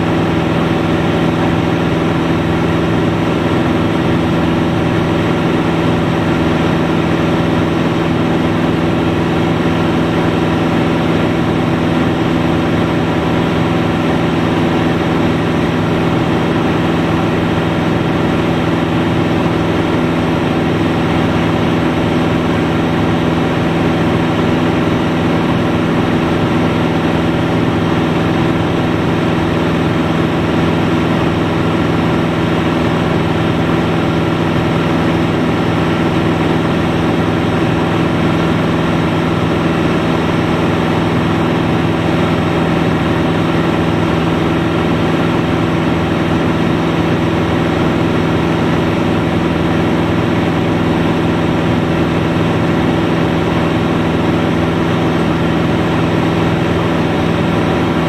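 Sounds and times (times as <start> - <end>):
propeller aeroplane engine drone: 0.0 - 58.0.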